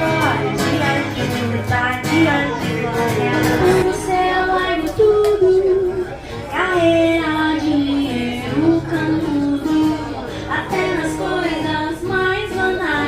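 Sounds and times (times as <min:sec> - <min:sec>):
person singing pop song: 0:00.0 - 0:13.0
strummed acoustic guitar: 0:00.0 - 0:13.0.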